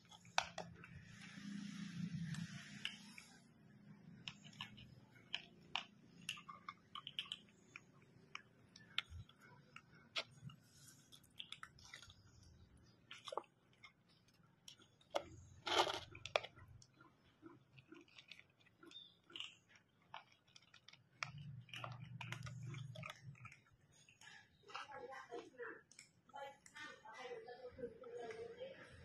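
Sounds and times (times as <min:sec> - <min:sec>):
pets crunching dry food: 0:00.0 - 0:29.0.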